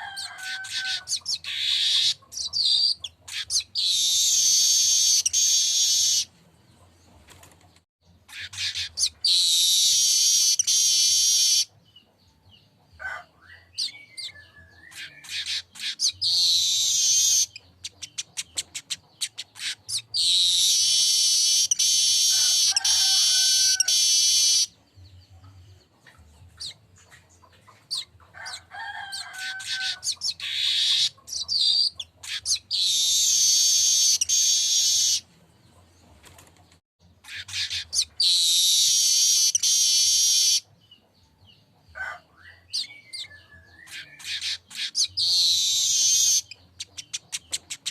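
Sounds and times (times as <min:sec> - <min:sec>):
bird singing high-pitched song: 0:00.2 - 0:06.3, 0:08.1 - 0:35.8, 0:37.1 - 0:47.9.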